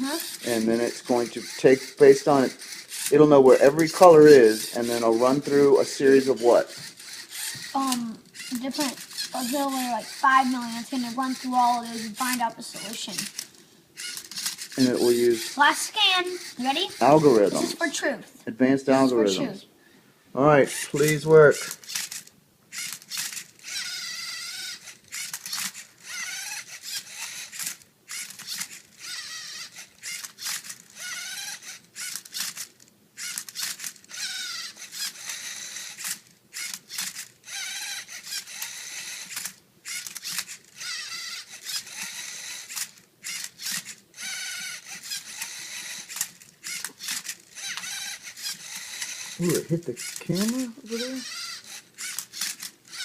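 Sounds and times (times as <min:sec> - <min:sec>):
robot motors whirring: 0:00.0 - 0:18.2, 0:20.7 - 0:53.0.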